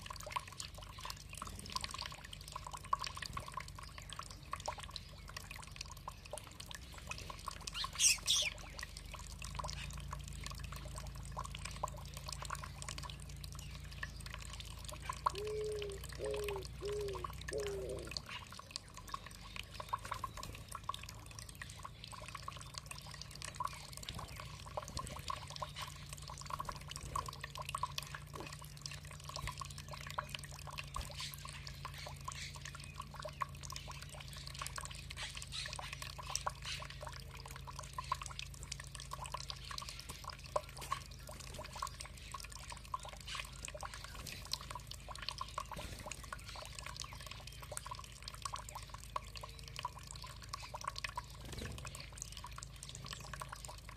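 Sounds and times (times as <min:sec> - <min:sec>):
water trickling and dripping: 0:00.0 - 0:53.9.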